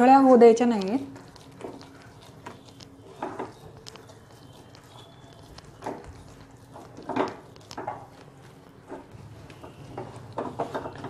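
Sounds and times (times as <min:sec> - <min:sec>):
dough squelching: 0:00.0 - 0:11.0
spatula scraping dough in pan: 0:00.0 - 0:11.0.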